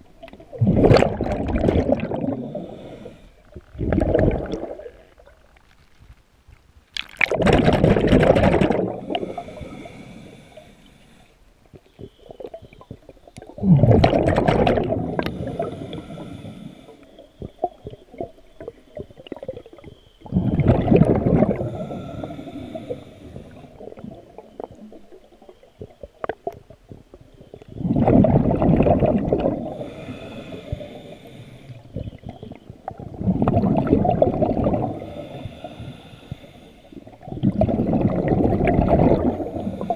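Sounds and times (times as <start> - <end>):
diver's breath bubbling underwater: 0.4 - 5.1, 7.0 - 10.7, 13.4 - 25.0, 27.8 - 39.9.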